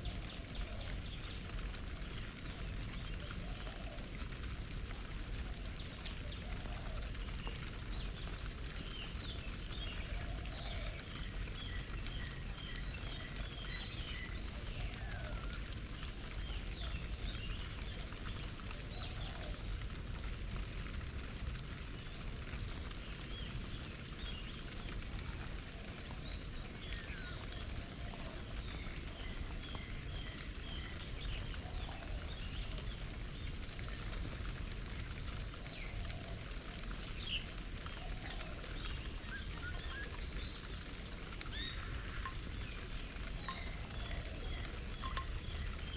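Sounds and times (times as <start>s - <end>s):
water splashing in bird bath: 0.0s - 45.9s
small birds chirping: 5.4s - 20.0s, 21.6s - 45.9s.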